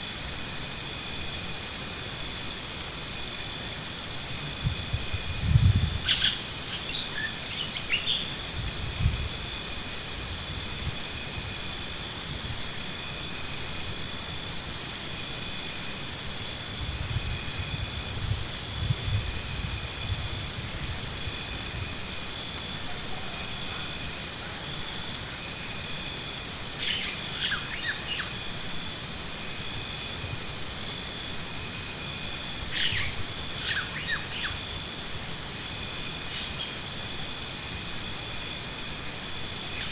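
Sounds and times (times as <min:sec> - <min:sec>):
insect-like chirping trills: 0:00.1 - 0:39.9.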